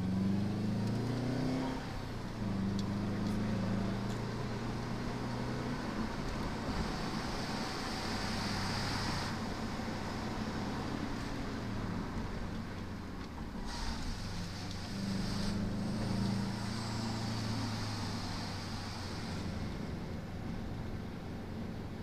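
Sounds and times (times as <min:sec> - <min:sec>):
car engine running: 0:00.0 - 0:22.0
road and tyre noise: 0:00.0 - 0:22.0.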